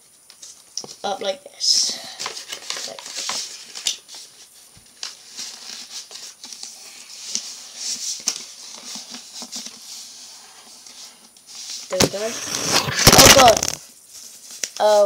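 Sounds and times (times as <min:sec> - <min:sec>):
paper rustling and crinkling: 0:01.8 - 0:15.0.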